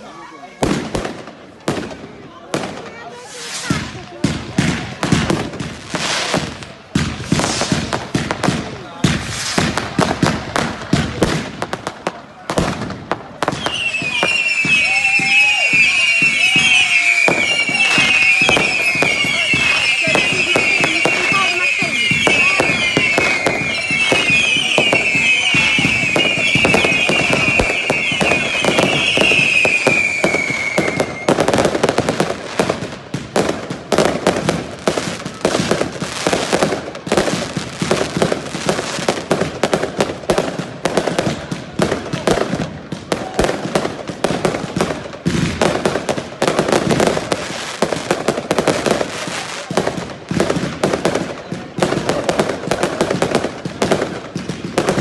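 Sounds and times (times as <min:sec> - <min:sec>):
fireworks bangs and crackling: 0:00.0 - 0:55.0
fireworks whistles: 0:00.6 - 0:11.8, 0:12.6 - 0:55.0.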